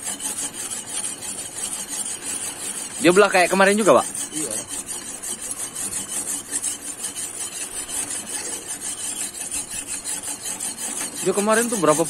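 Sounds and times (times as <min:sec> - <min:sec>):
knife scraping fish skin: 0:00.0 - 0:12.0.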